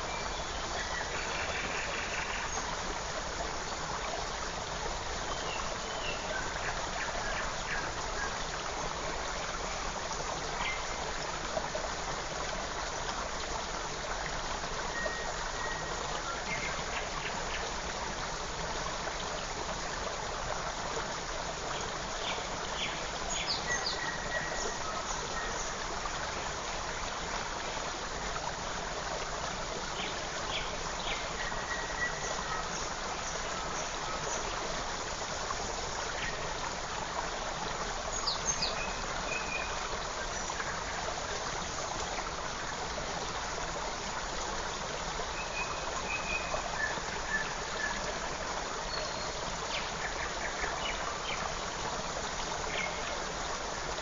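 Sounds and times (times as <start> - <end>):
stream rushing water: 0.0 - 54.0.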